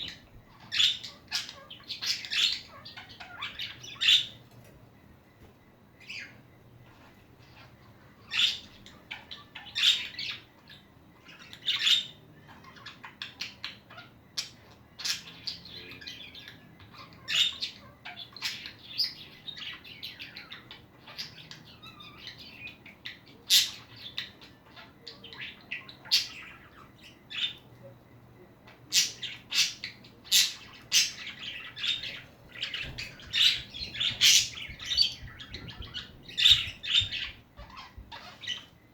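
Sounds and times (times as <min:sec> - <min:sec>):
budgerigars chattering: 0:00.0 - 0:04.4, 0:07.4 - 0:27.7, 0:28.7 - 0:38.8.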